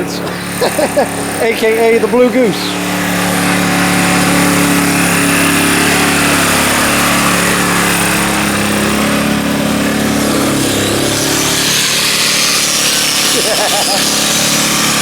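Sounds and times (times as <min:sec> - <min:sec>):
handheld power tool running: 0:00.0 - 0:15.0.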